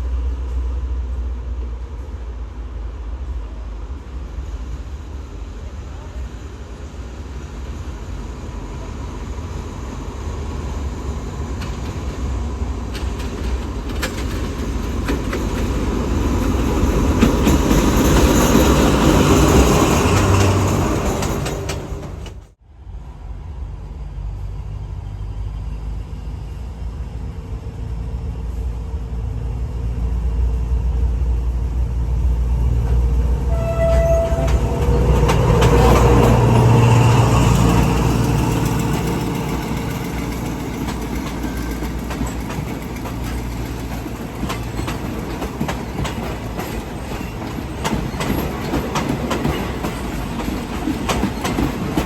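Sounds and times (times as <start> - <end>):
diesel train passing: 0.0 - 52.0.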